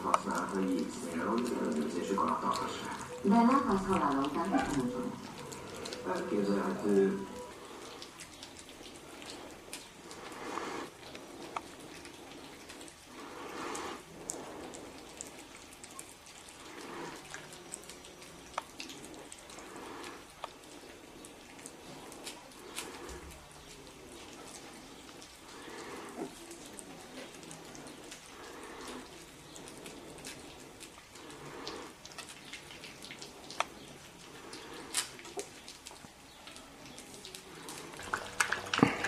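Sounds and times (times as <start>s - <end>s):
puppies eating from a bowl: 0.0s - 39.0s.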